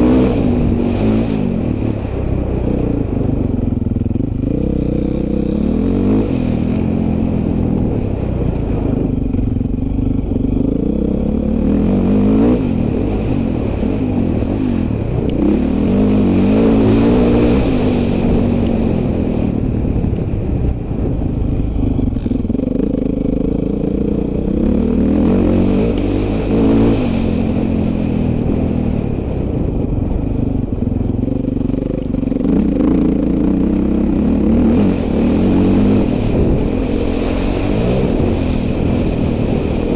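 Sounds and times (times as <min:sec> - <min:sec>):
dirt bike engine revving: 0:04.2 - 0:09.0, 0:09.6 - 0:20.3, 0:20.9 - 0:29.2, 0:31.7 - 0:39.9.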